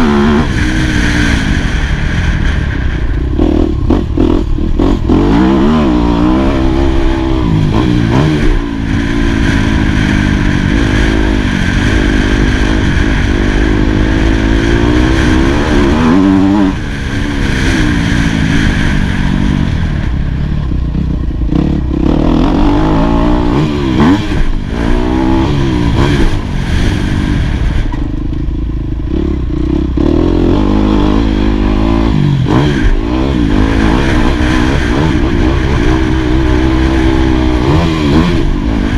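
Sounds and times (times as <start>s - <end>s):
dirt bike engine revving hard: 0.0s - 2.6s, 3.4s - 19.8s, 21.5s - 27.8s, 29.1s - 38.9s.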